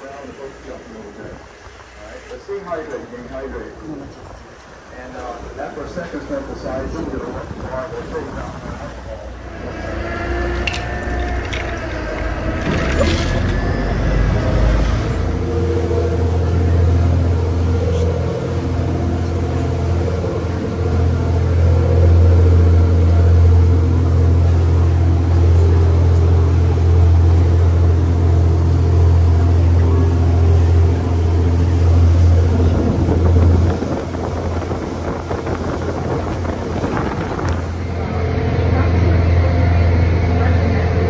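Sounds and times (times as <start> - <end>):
boat engines droning: 0.0 - 41.0
water rushing in wake: 0.0 - 41.0.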